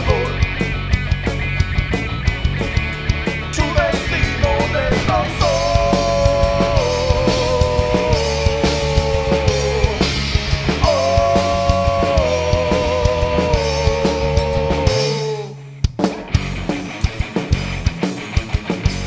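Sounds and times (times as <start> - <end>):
bass guitar: 0.0 - 19.0
drum kit: 0.0 - 19.0
electric guitars: 0.0 - 19.0.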